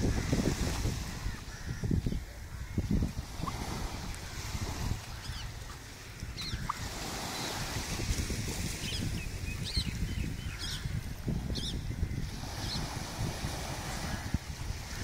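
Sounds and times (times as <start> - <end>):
gentle surf: 0.0 - 15.0
wind buffeting microphone: 0.0 - 15.0.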